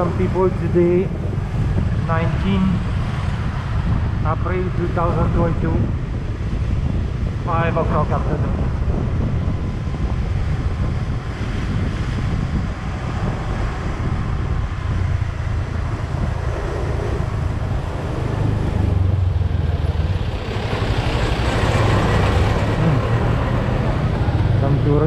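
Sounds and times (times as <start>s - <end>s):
vehicle engine and road noise: 0.0s - 25.0s
wind buffeting microphone: 0.0s - 25.0s.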